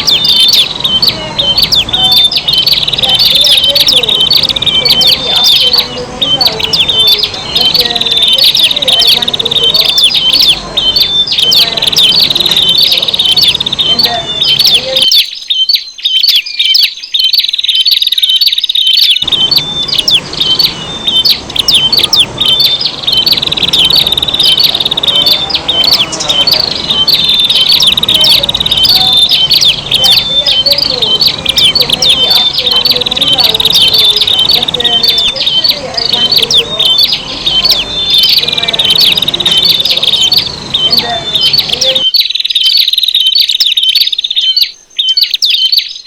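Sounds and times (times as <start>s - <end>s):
birds chirping and trilling: 0.0s - 46.0s.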